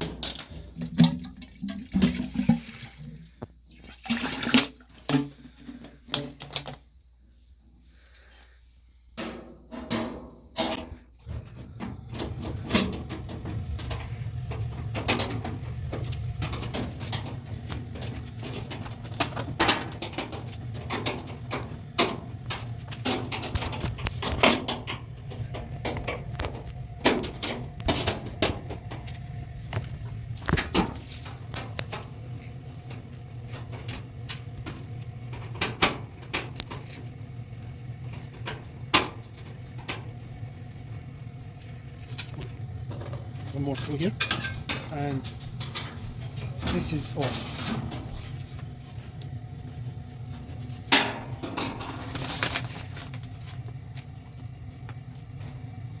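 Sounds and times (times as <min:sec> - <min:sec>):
steady low hum: 0:04.8 - 0:56.0.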